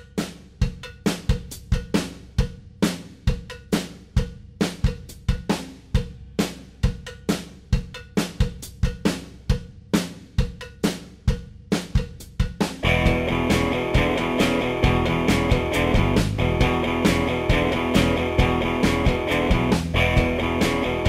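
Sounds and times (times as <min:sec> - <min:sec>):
drum kit playing a steady beat: 0:00.0 - 0:21.0.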